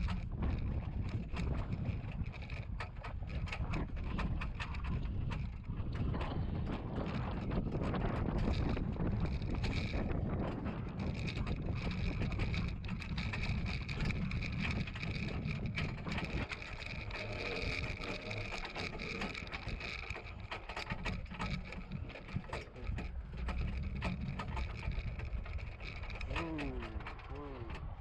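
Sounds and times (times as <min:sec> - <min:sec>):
metal cart rattling and clicking: 0:00.0 - 0:28.0
steady low rumble: 0:03.6 - 0:28.0.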